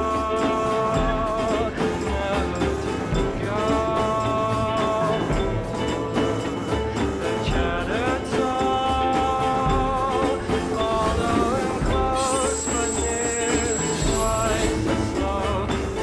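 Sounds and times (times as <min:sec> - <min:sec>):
background music with gliding melody: 0:00.0 - 0:16.0.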